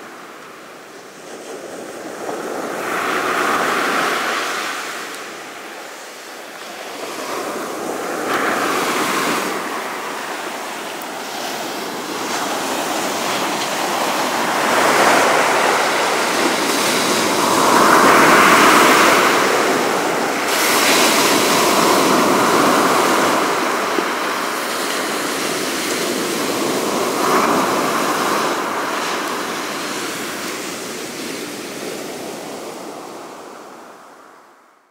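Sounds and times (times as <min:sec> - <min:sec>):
sea surf breaking on beach: 0:00.0 - 0:34.7.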